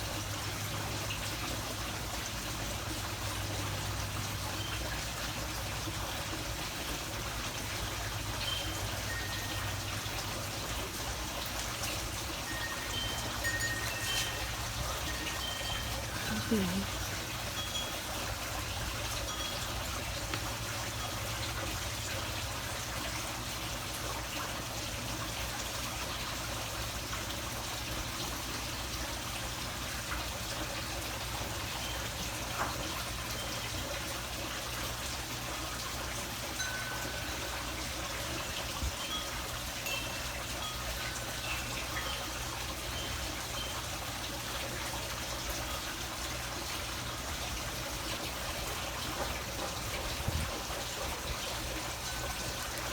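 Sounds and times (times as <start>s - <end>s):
trickle of running water: 0.0s - 52.9s.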